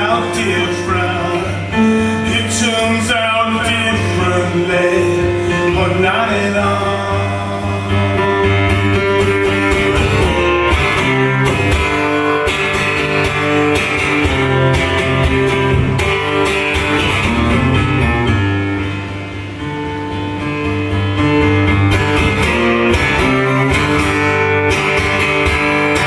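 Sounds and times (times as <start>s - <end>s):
amplified guitar strumming: 0.0s - 26.0s.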